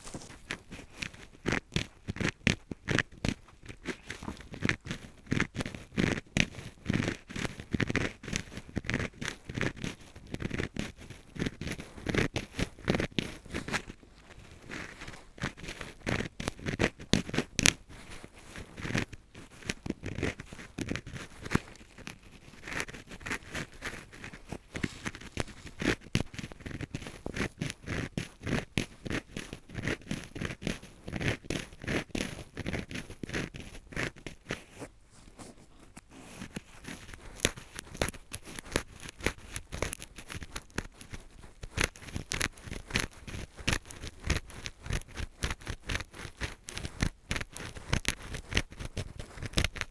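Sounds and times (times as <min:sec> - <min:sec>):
earpick scraping inside ear: 0:07.0 - 0:49.9.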